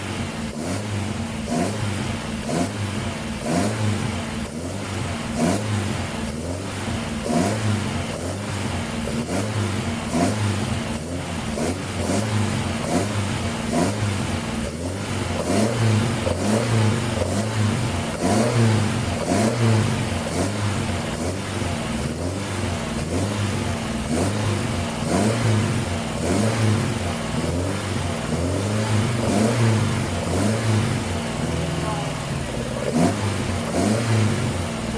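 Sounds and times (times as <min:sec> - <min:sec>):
car engine revs rising and falling: 0:00.0 - 0:34.9.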